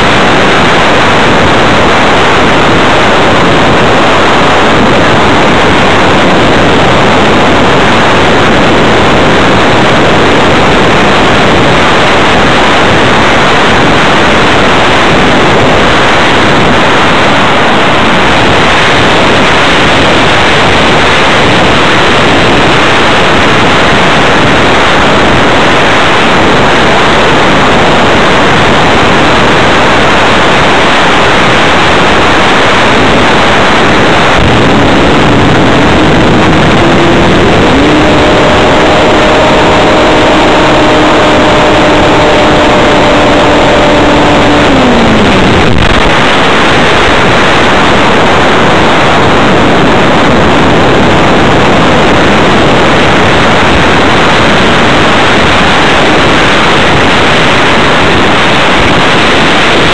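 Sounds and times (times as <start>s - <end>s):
model plane propeller and airstream: 0.0s - 59.9s.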